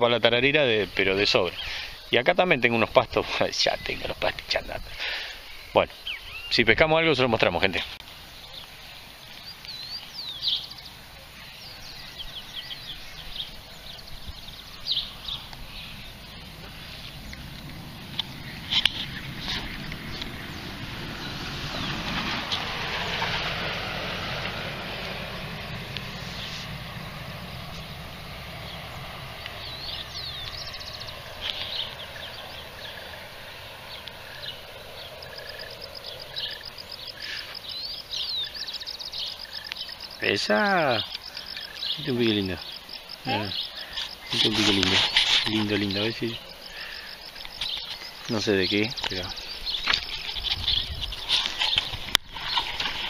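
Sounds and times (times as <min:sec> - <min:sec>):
birds chirping and whistling: 0:01.2 - 0:02.1, 0:03.4 - 0:06.8, 0:08.0 - 0:22.7, 0:25.2 - 0:53.0.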